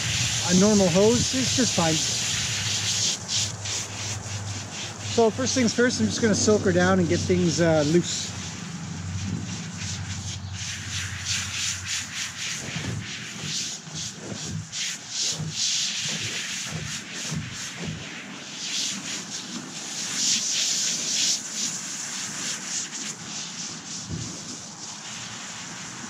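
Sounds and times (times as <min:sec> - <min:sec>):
hose spray nozzle hissing: 0:00.0 - 0:26.0
water spattering on horse's coat: 0:00.0 - 0:26.0.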